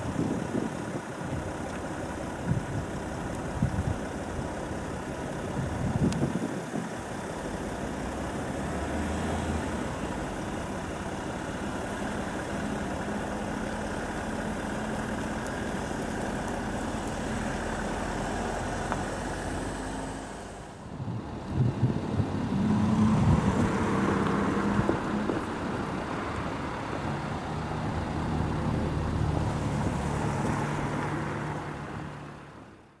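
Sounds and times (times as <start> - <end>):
engine noise: 0.0 - 33.0
road traffic: 0.0 - 33.0
uneven engine noise: 0.0 - 33.0.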